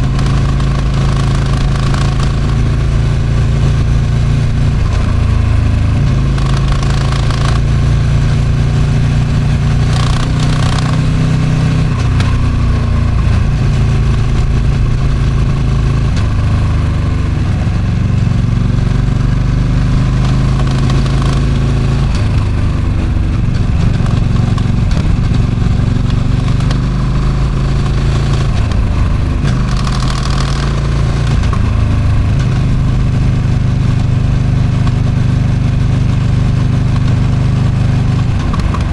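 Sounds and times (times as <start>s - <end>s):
motorcycle engine running: 0.0s - 38.9s
wind on microphone: 0.0s - 38.9s.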